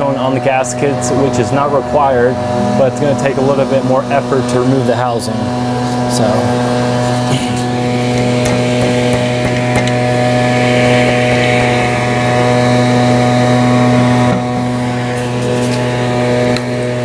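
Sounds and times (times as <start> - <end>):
machine buzzing hum: 0.0 - 17.0.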